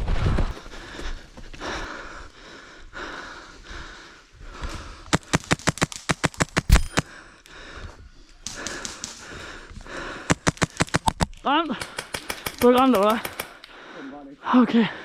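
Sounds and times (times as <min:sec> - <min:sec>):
heavy breathing: 0:00.5 - 0:05.6, 0:06.8 - 0:11.2, 0:11.8 - 0:15.0.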